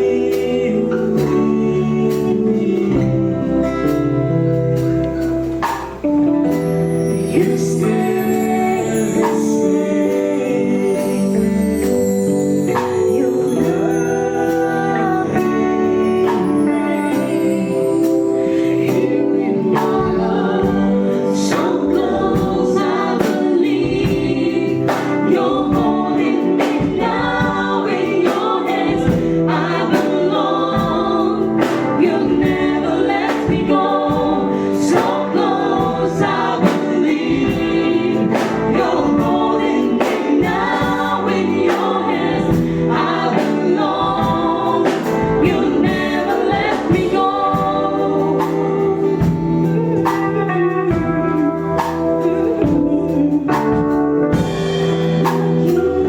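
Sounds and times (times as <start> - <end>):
steady drum beat: 0.0 - 9.9, 18.0 - 56.0
choir singing gospel: 0.0 - 56.0
instrumental accompaniment: 0.0 - 56.0.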